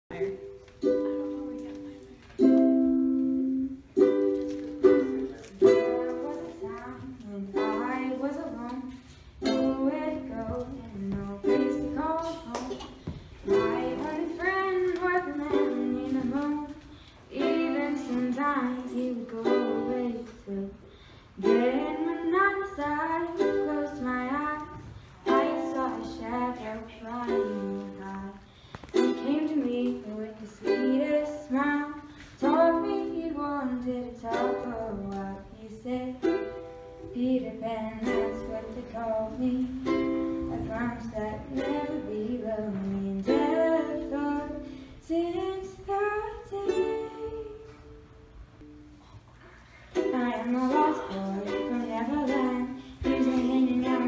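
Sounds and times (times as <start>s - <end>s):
ukulele: 0.1s - 54.0s
girl singing: 0.8s - 54.0s.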